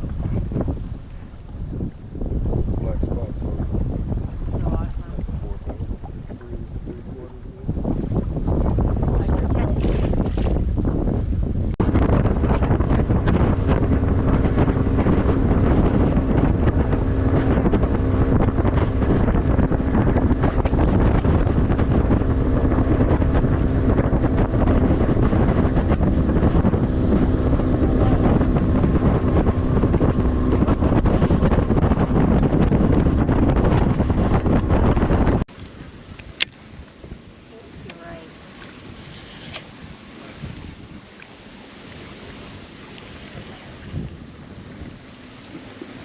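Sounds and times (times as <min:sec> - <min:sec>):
outboard motor running: 0:00.0 - 0:35.9, 0:41.8 - 0:46.0
wind buffeting microphone: 0:00.0 - 0:46.0.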